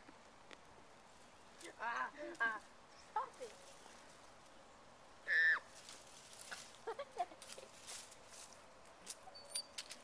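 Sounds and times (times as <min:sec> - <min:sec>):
dry leaves rustling: 0:01.0 - 0:10.0.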